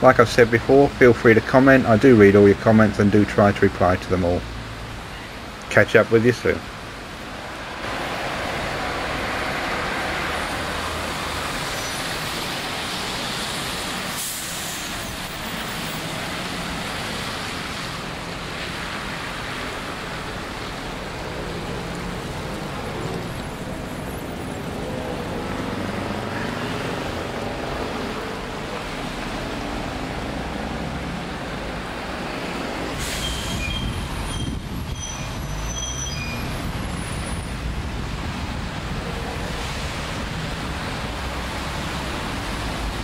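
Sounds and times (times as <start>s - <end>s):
diesel buses idling and pulling away: 0.0s - 43.0s
traffic hiss on wet road: 0.0s - 43.0s.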